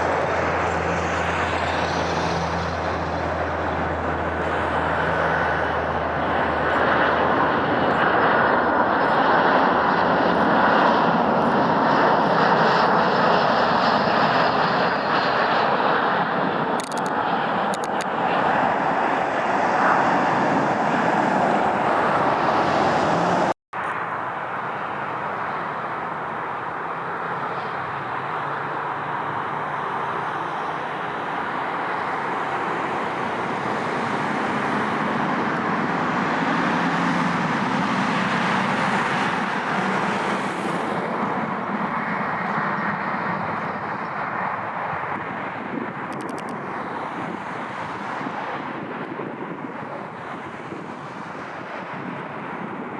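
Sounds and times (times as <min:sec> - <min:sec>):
jet airliner engines rushing: 0:00.0 - 0:52.9.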